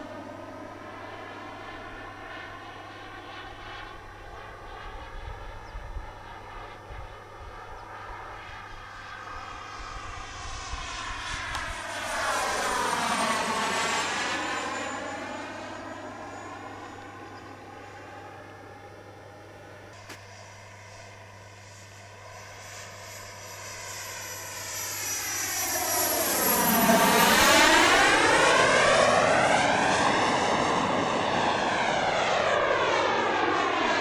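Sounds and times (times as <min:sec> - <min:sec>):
model jet turbine whine: 0:00.0 - 0:34.0.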